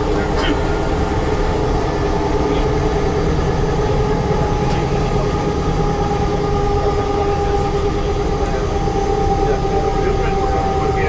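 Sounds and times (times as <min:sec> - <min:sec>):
diesel railcar engine rumble: 0:00.0 - 0:11.0.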